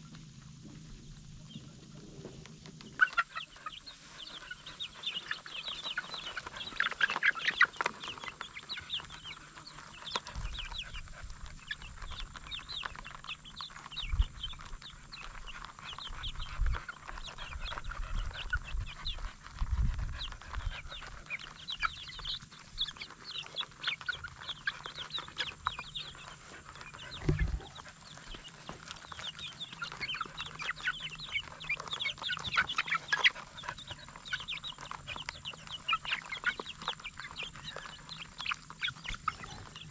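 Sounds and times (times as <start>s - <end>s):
chicks cheeping and clucking: 0.0s - 39.9s.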